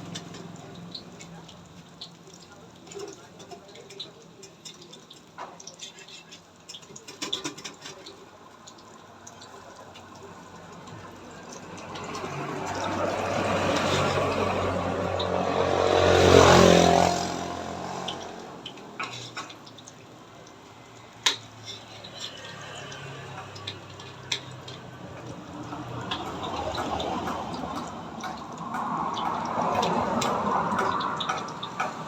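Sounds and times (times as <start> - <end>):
water running and splashing: 0.0 - 32.0
water trickling and dripping: 0.0 - 32.0.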